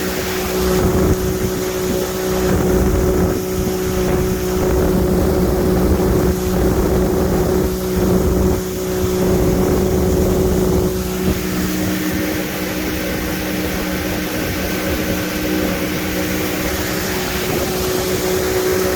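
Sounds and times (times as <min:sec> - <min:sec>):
boat engine running: 0:00.0 - 0:18.9
water hiss: 0:00.0 - 0:18.9
wind: 0:00.0 - 0:18.9.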